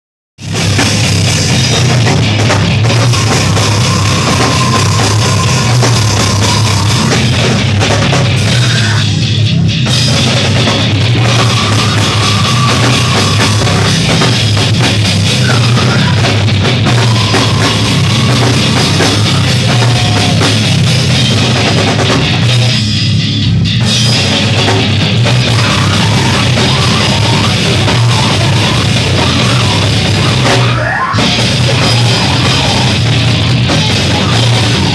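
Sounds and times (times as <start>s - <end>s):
drum kit: 0.4s - 34.9s
heavy metal band playing live: 0.4s - 34.9s.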